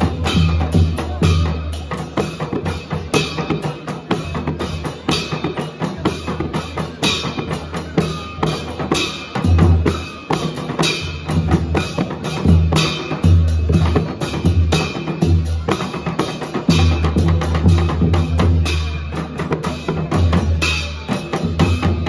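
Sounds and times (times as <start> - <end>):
barrel drums playing fast rhythm: 0.0 - 22.0.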